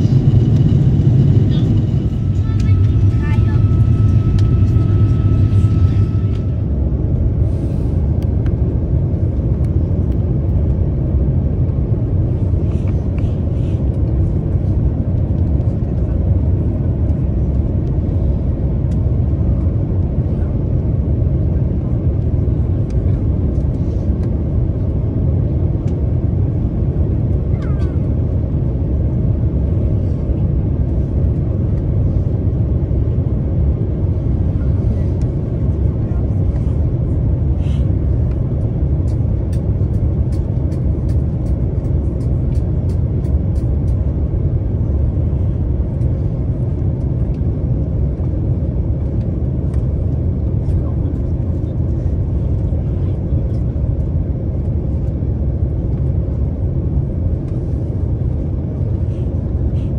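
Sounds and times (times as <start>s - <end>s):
jet airliner cabin roar: 0.0s - 59.9s.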